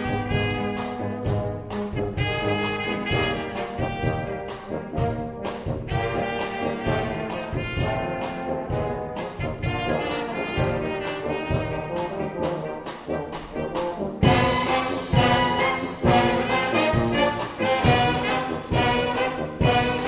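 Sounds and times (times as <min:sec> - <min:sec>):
steady drum beat: 0:00.0 - 0:20.0
trombone: 0:00.0 - 0:20.0
trumpet: 0:00.0 - 0:20.0.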